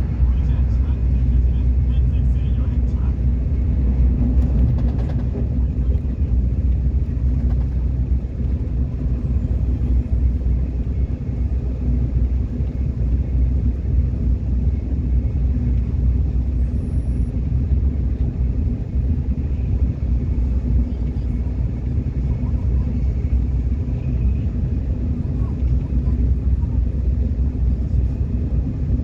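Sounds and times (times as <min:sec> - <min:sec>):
subway train rumble: 0:00.0 - 0:29.0.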